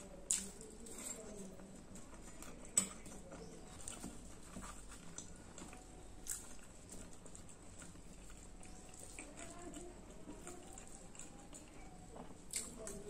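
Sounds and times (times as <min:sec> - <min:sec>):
chewing and wet mouth noises: 0:00.0 - 0:13.0.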